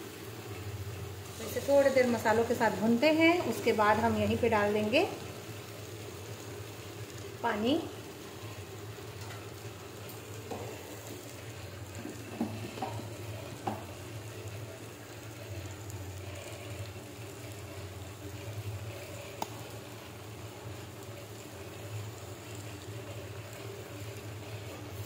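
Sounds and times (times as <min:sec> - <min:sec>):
vegetables frying in a pan: 0:00.0 - 0:25.0.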